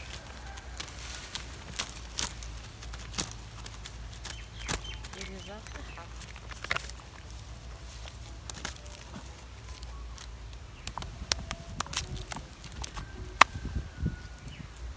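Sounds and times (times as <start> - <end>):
fish tapping and rustling on leaves: 0.0 - 14.9.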